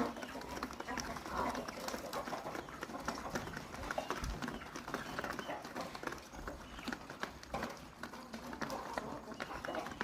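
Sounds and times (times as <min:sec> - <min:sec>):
chicken and duck calls: 0:00.0 - 0:10.0
poultry taps and clicks: 0:00.0 - 0:10.0.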